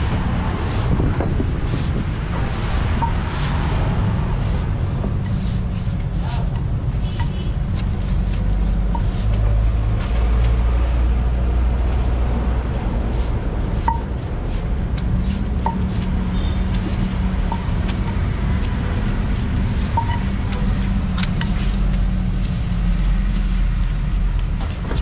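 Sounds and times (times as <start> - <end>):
pestle scraping wet food in mortar: 0.0 - 25.0
traffic rumble: 0.0 - 25.0.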